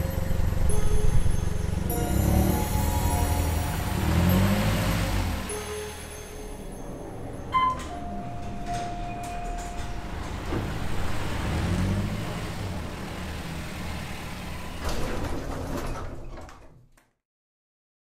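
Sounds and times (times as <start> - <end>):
elevator doors sliding: 0.0 - 16.9.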